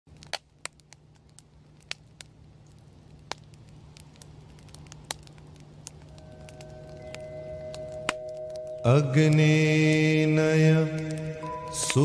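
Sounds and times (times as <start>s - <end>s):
crackles and pops: 0.1s - 12.0s.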